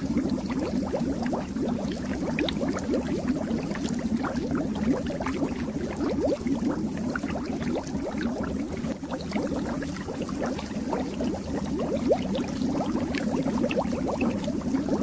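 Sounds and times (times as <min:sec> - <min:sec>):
water bubbling in fish tank: 0:00.0 - 0:15.0.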